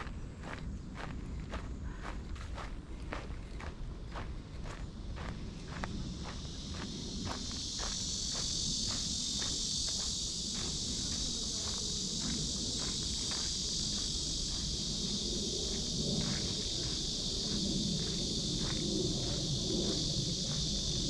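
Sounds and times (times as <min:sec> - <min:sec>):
cicadas buzzing: 0:00.0 - 0:21.0
footsteps on path: 0:00.0 - 0:21.0.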